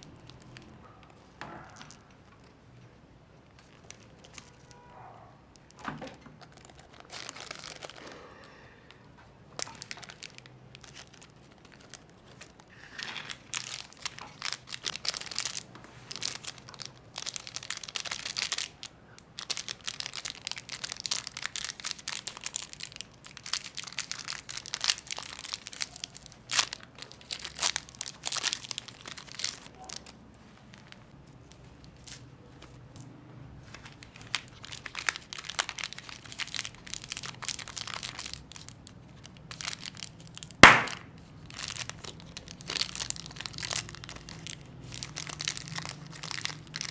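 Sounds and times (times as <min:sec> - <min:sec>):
snack wrappers crinkling and tearing: 0:00.0 - 0:04.8, 0:05.4 - 0:46.9.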